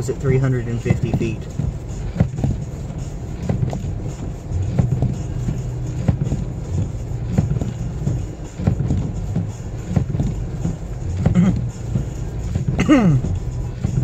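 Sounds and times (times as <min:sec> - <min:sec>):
car engine and road hum: 0:00.0 - 0:14.0
knocks and thumps: 0:00.8 - 0:14.0.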